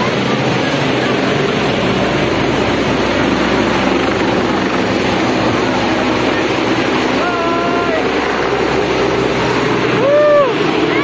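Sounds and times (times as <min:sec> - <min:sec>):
helicopter flying low: 0:00.0 - 0:11.0.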